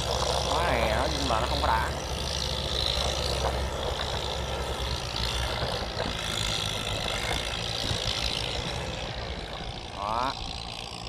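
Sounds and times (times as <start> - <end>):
diesel tractor engine droning: 0.0 - 11.0.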